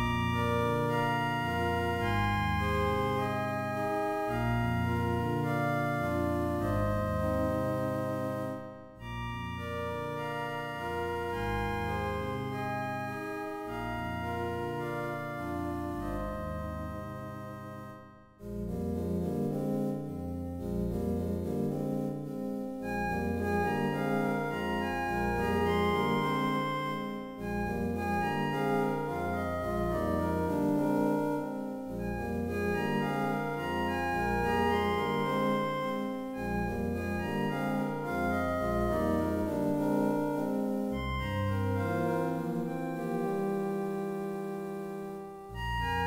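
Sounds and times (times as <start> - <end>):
digital keyboards playing chords: 0.0 - 46.0.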